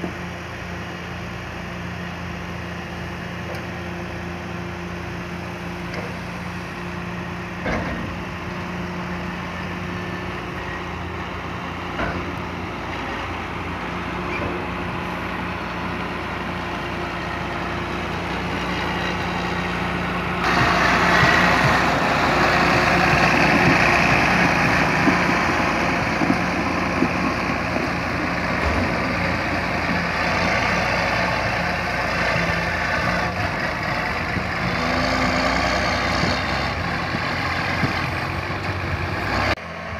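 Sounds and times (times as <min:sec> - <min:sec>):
engine hum with low drone: 0:00.0 - 0:39.9
harsh tractor engine close by: 0:00.0 - 0:39.9.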